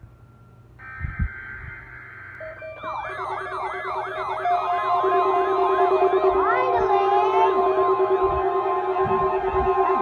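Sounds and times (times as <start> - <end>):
alarm tones: 0.0 - 10.0
warbling siren: 0.8 - 10.0.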